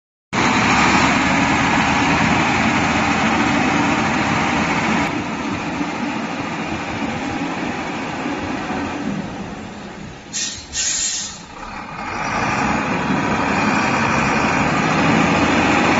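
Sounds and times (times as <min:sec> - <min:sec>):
truck diesel engine running: 0:00.4 - 0:10.4, 0:11.3 - 0:15.9.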